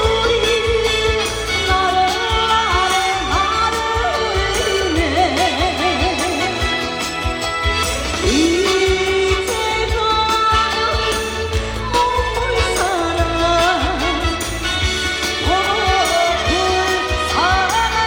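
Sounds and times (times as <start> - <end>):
backing music with steady beat: 0.0 - 18.0
woman singing: 0.0 - 18.0.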